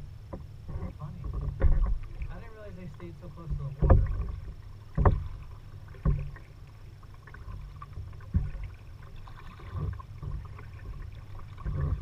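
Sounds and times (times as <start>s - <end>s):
paddle strokes in water: 0.0s - 12.0s.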